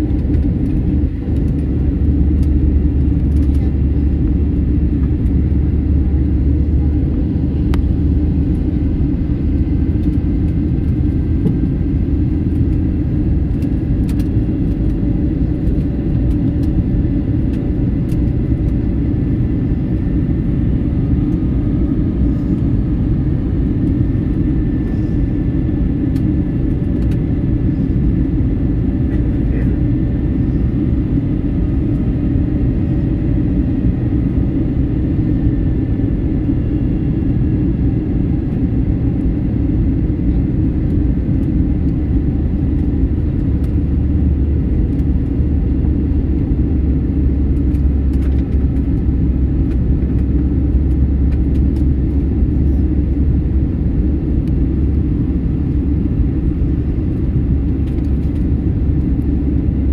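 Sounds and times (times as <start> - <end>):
airliner engine rumble: 0.0 - 59.9
faint high engine whine: 0.0 - 59.9.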